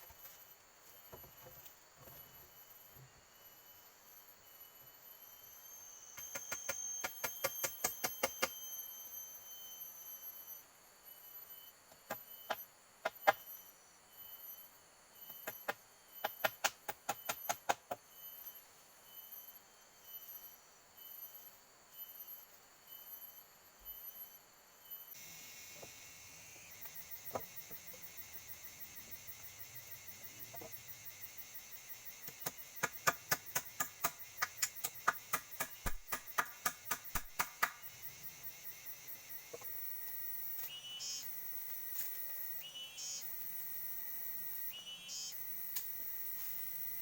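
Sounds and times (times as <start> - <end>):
insects trilling: 0.0 - 47.0
fast pulsing insect call: 2.5 - 47.0.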